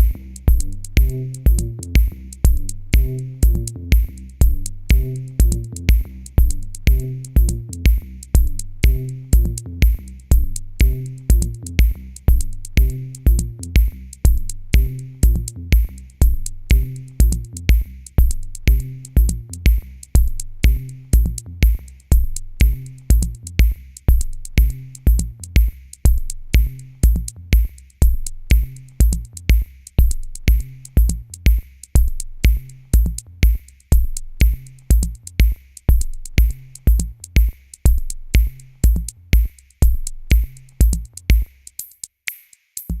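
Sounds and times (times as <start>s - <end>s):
electronic music with drum beat: 0.0s - 43.0s.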